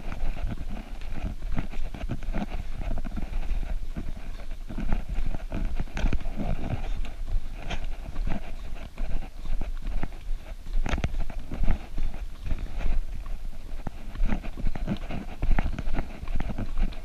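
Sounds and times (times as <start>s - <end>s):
running footsteps on dirt trail: 0.0s - 17.0s.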